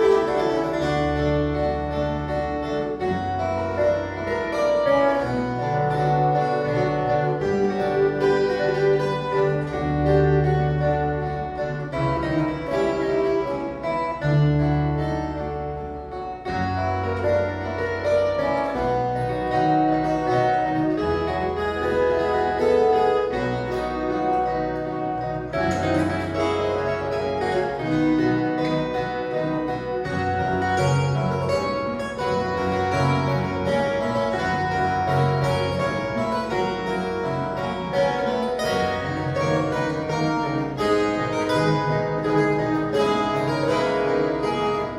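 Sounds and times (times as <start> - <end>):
plucked folk guitars ensemble: 0.0 - 44.9.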